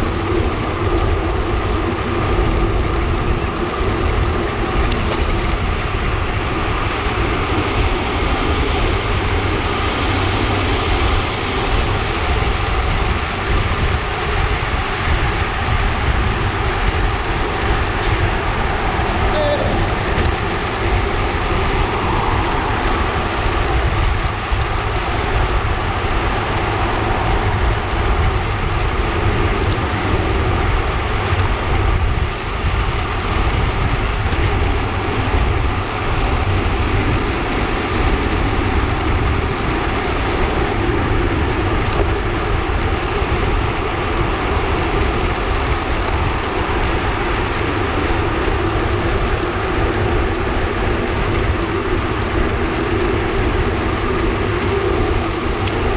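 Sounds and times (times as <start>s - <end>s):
heavy low rumble: 0.0s - 55.9s
wind rushing over microphone: 0.0s - 55.9s.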